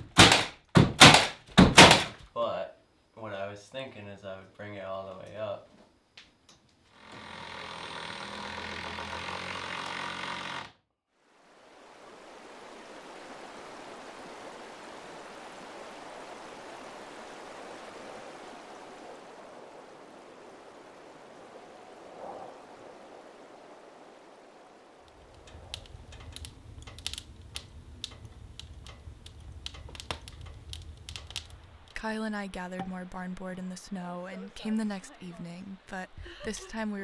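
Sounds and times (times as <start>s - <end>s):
outdoor ambience hiss: 0.0s - 37.0s.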